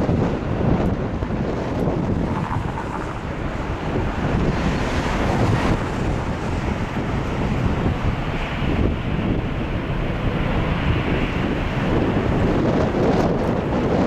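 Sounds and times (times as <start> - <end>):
jet engines at takeoff: 0.0 - 14.0
wind buffeting microphone: 0.0 - 14.0.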